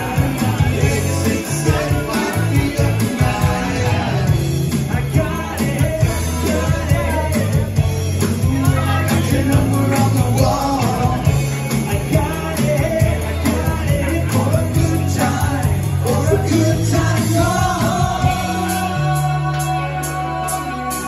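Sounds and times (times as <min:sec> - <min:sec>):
man singing lead vocal: 0:00.0 - 0:21.0
rock band playing: 0:00.0 - 0:21.0.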